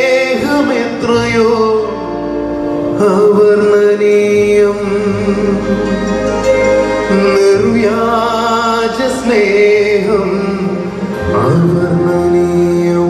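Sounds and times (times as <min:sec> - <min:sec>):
bass notes: 0:00.0 - 0:13.0
live band accompaniment: 0:00.0 - 0:13.0
man singing into microphone: 0:00.0 - 0:13.0.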